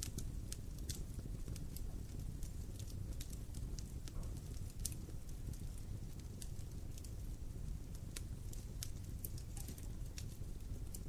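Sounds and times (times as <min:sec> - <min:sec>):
burning wood crackling and popping: 0:00.0 - 0:11.0
wood fire low rumble: 0:00.0 - 0:11.0.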